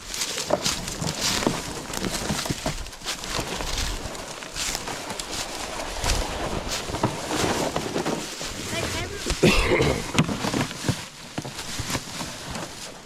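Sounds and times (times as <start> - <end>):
crunching footsteps: 0.0 - 13.0
sled scraping through leaves: 0.0 - 13.0.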